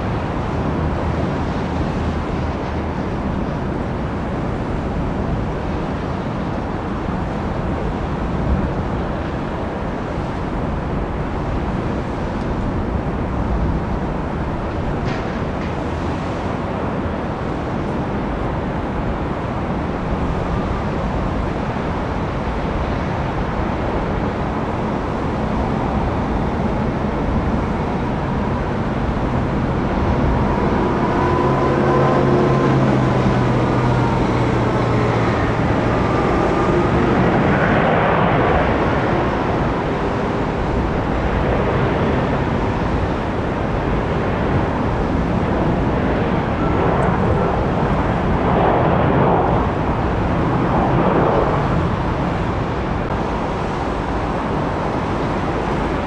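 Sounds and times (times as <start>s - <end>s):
jet engine rumble: 0.0s - 56.0s
jet engine whine: 0.0s - 56.0s.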